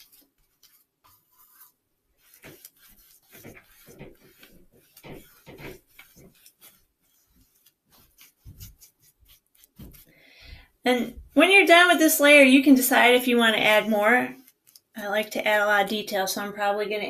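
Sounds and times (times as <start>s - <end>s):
paintbrush stroking on paper: 0.0s - 15.0s.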